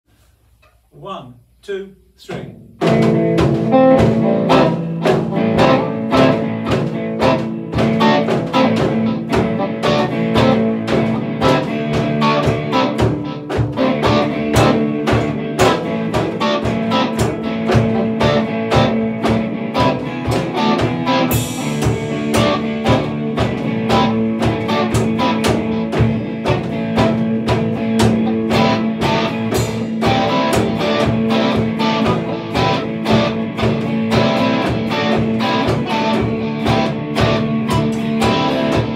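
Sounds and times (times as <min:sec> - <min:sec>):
drum beat: 0:02.2 - 0:38.9
electric guitars: 0:02.3 - 0:38.9.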